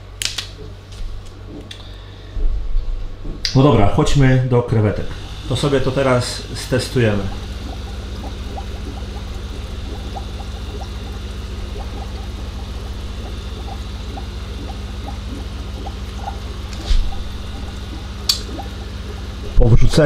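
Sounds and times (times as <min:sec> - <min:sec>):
steady low hum: 0:00.0 - 0:20.0
aquarium filter bubbles popping: 0:00.5 - 0:02.1, 0:05.1 - 0:20.0.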